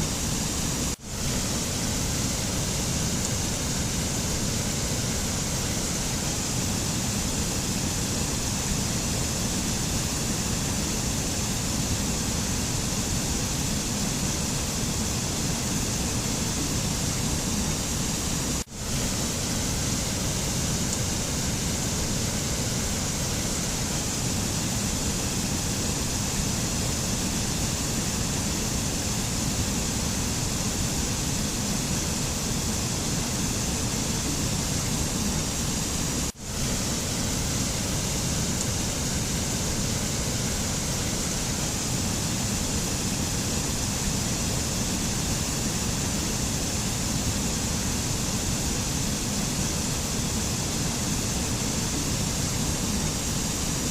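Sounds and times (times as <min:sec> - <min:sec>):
rushing nature ambience: 0:00.0 - 0:53.9.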